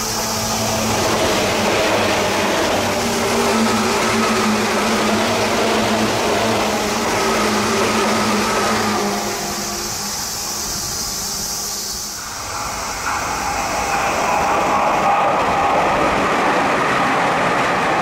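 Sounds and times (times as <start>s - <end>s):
electric train hum: 0.0s - 18.0s
train approaching: 0.0s - 18.0s
train wheels on rail: 0.0s - 18.0s.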